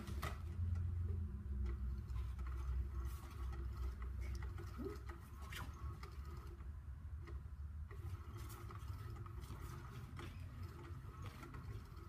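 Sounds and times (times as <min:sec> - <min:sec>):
small motor whirring: 0:01.7 - 0:06.7, 0:07.3 - 0:12.0.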